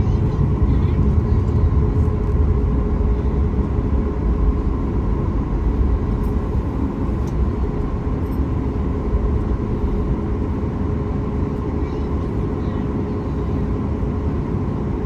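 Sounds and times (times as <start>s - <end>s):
steady engine tones: 0.0s - 14.8s
airplane cabin engine rumble: 0.0s - 15.0s.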